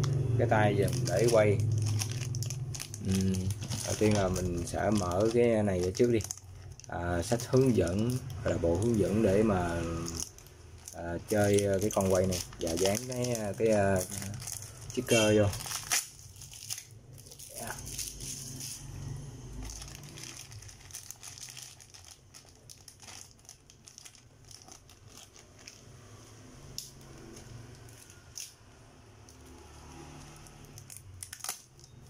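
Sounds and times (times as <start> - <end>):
plastic bag crinkling: 0.0 - 18.9, 19.6 - 28.6, 29.3 - 32.0.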